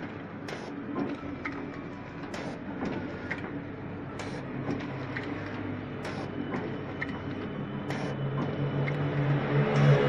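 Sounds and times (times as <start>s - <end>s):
machine clacking: 0.0s - 10.0s
packing machine humming: 0.0s - 10.0s.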